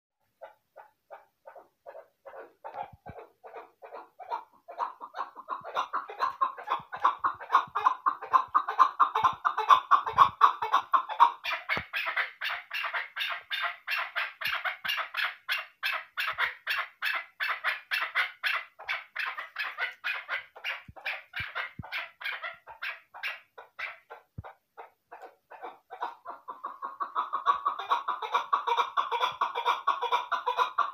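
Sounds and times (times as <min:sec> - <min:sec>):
partridge chuck calls: 0:00.3 - 0:30.9.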